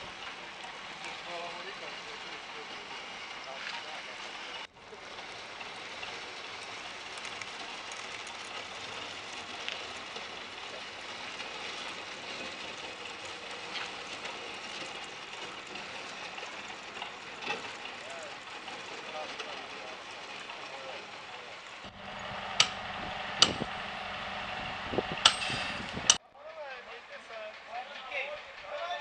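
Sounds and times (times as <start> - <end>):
trailer crackling over gravel: 0.0 - 29.0.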